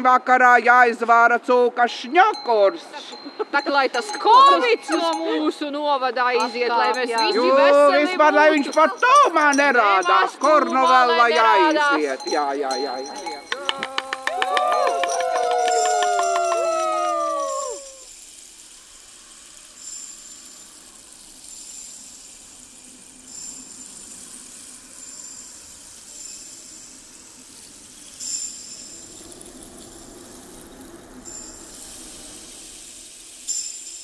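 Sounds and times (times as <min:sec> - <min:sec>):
small bells jingling: 0:01.8 - 0:34.0.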